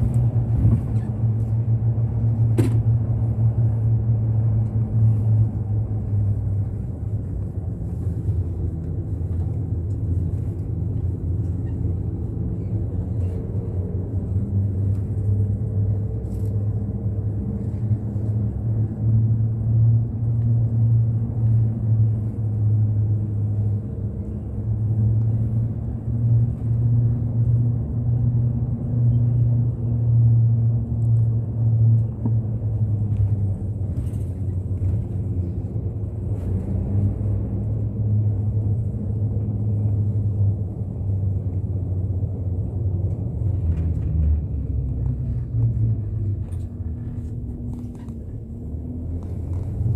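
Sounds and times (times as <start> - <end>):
bus engine and road rumble: 0.0 - 49.9.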